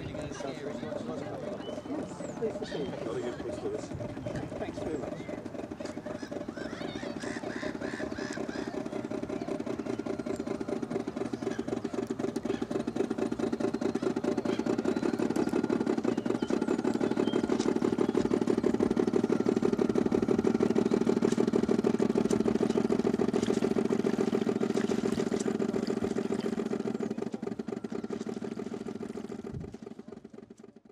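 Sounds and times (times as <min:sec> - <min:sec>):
model boat engine chugging: 0:00.0 - 0:30.9.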